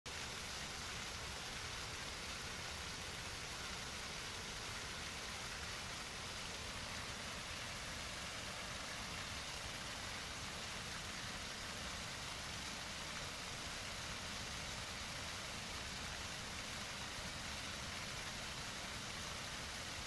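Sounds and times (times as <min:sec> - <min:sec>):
waterfall pouring into pool: 0:00.1 - 0:20.0.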